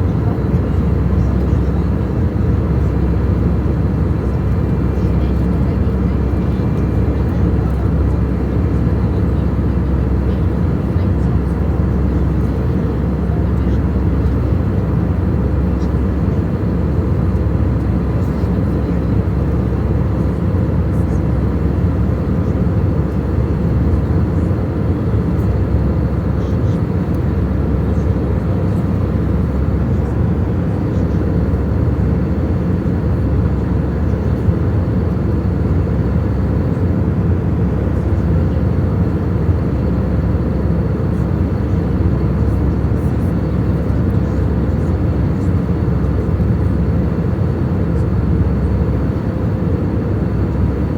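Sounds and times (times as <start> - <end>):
airliner cabin engine noise: 0.0 - 50.9.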